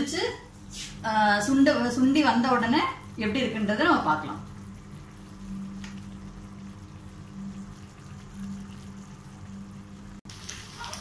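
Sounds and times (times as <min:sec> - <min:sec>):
steady low hum: 0:00.0 - 0:10.2
thick mixture bubbling: 0:02.0 - 0:11.0.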